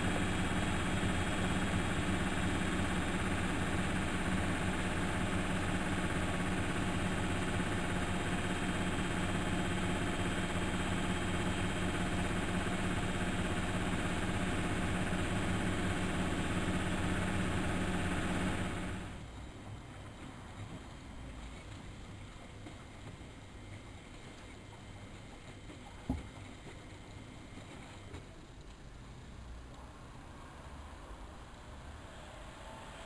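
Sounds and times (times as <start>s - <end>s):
washing machine humming: 0.0s - 21.3s, 22.0s - 29.4s.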